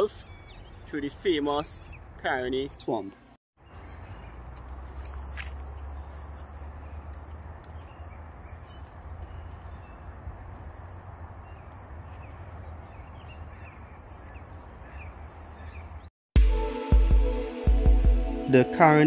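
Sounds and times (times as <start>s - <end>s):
small birds chirping: 0.0s - 16.1s.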